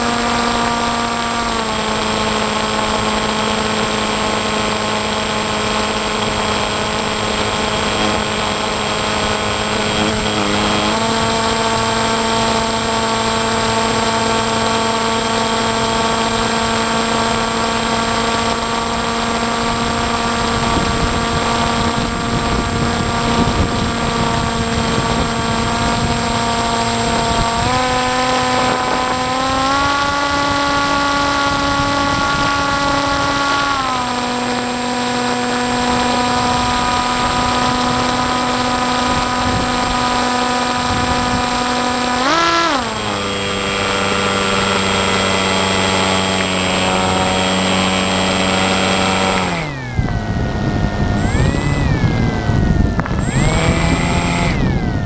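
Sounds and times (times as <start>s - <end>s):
electric motor and propeller whine: 0.0s - 55.0s
wind rush on microphone: 0.0s - 55.0s.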